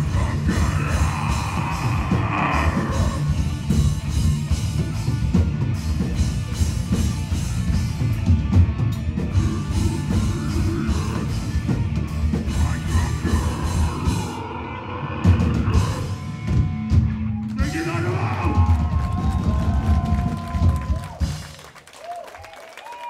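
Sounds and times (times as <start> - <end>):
metal band playing loud: 0.0 - 21.6
fast drum kit: 0.0 - 21.8.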